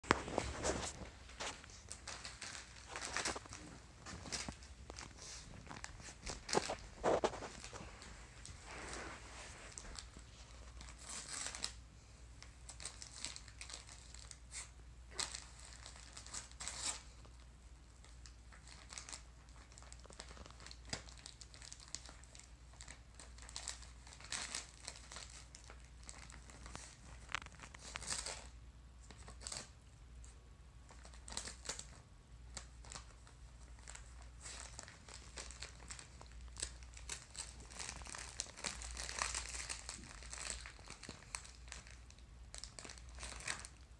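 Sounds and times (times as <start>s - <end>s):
dog ripping wrapping paper: 0.0s - 11.8s, 12.4s - 17.4s, 18.0s - 29.8s, 30.9s - 43.8s.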